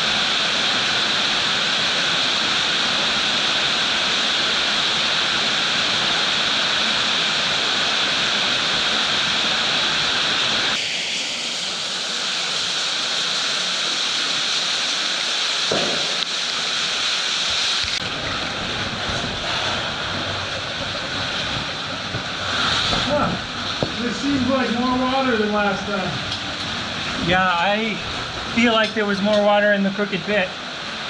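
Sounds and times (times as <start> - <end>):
water falling and spraying: 0.0 - 31.0.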